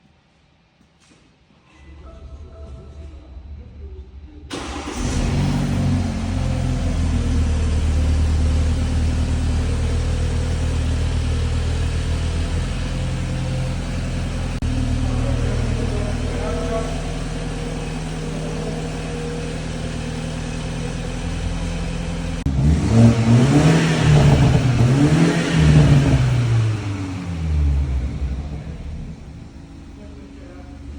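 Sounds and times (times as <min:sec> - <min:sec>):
car engine starting and revving: 0:04.5 - 0:30.9.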